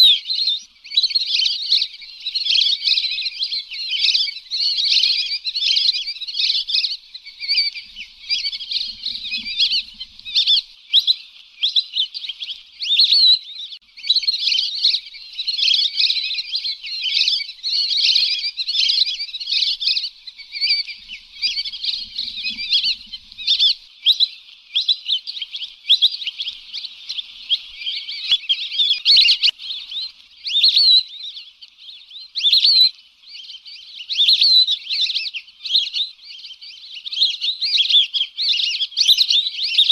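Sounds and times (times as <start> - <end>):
ducks whistling: 0.0 - 39.9.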